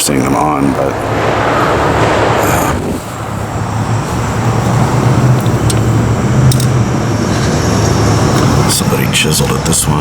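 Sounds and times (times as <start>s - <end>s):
passing vehicles engine hum: 0.0s - 10.0s.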